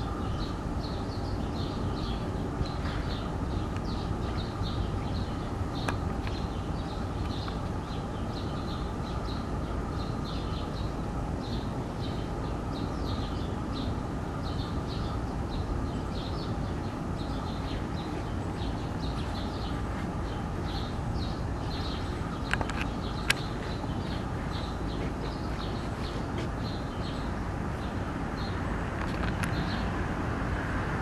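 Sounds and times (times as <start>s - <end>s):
small birds chirping: 0.0s - 30.8s
low background rumble: 0.0s - 31.0s.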